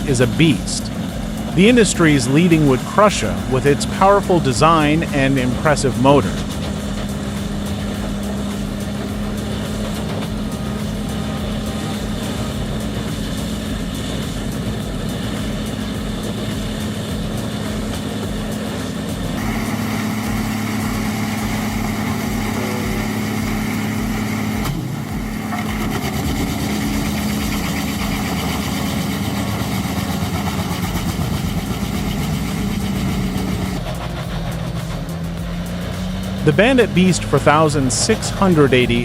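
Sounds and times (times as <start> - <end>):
large diesel engine running: 0.0 - 39.0.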